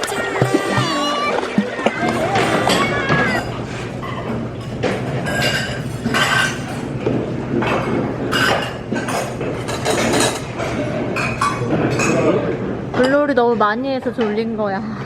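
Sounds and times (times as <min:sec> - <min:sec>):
dishes and cutlery clinking: 0:00.0 - 0:13.2.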